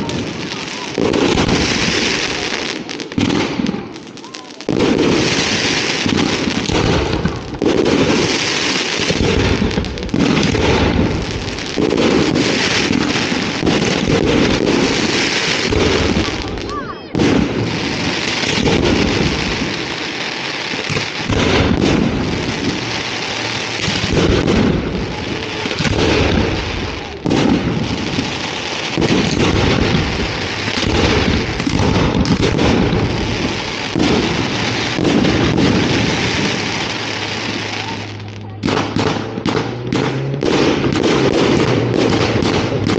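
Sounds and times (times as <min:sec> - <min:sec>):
firework crackling: 0:00.0 - 0:42.9
firework shells bursting: 0:00.0 - 0:42.9.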